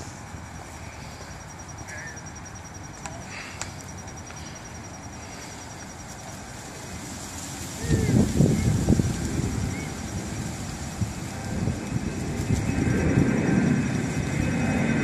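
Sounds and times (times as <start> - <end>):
insect pulsing trill: 0.0 - 15.0.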